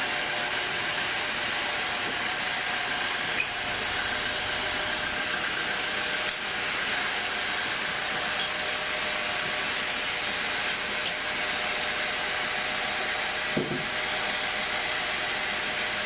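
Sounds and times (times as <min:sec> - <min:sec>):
band sawmill sawing log: 0:00.0 - 0:16.0.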